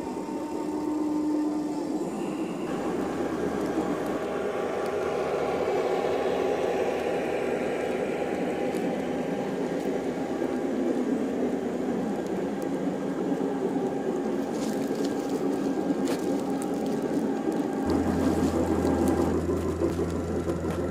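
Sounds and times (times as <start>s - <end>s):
metal wheels rolling on rails: 2.1s - 20.9s.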